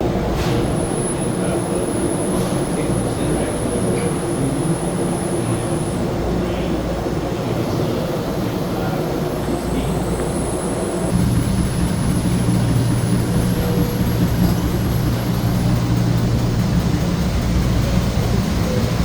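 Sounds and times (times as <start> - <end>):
ship machinery drone: 0.0 - 19.0.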